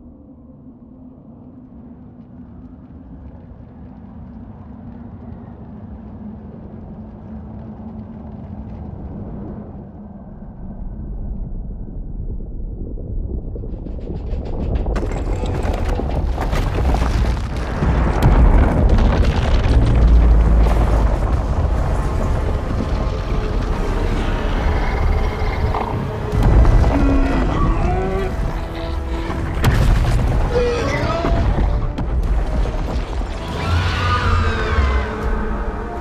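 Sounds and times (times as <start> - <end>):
film score music: 0.0 - 36.0
low drone and deep rumble: 0.0 - 36.0.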